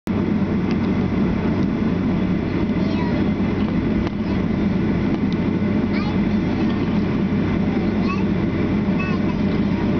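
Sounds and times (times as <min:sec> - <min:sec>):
aircraft engine and airflow rumble: 0:00.1 - 0:09.9.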